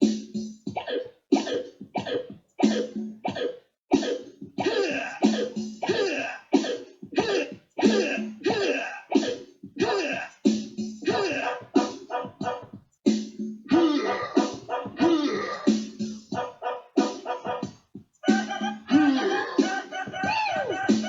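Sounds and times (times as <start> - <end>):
rhythmic cough-like vocal sounds: 0.0 - 21.0.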